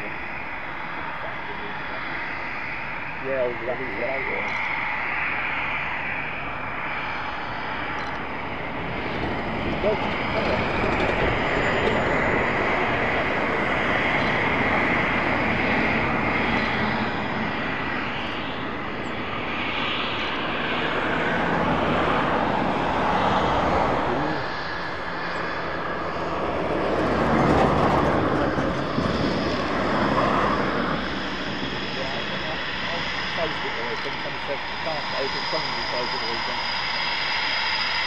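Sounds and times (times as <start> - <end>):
jet engine whine at taxi power: 0.0 - 38.0.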